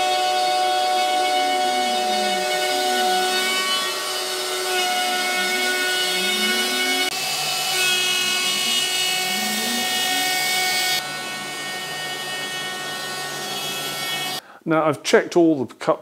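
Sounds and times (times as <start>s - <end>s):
dust extractor running: 0.0s - 14.4s
router high whine: 0.0s - 14.4s.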